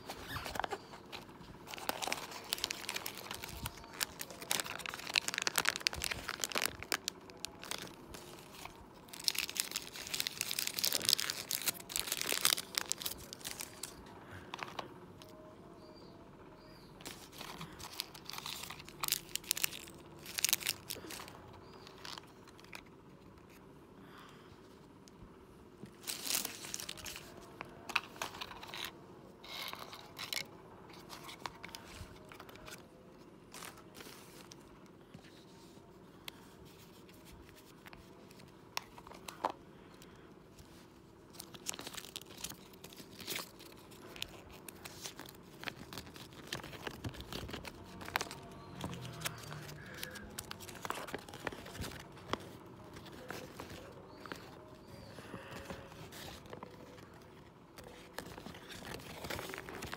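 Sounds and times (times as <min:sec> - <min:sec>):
card and paper rustling: 0:00.0 - 0:15.4, 0:17.0 - 0:23.7, 0:25.9 - 0:59.9
paper crinkling: 0:00.0 - 0:15.4, 0:17.0 - 0:23.6, 0:25.9 - 0:28.9, 0:29.5 - 0:35.8, 0:36.4 - 0:59.9.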